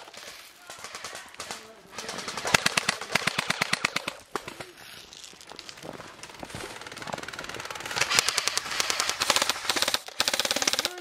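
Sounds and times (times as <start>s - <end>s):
airsoft guns firing bursts: 0.0s - 4.9s, 6.2s - 11.0s.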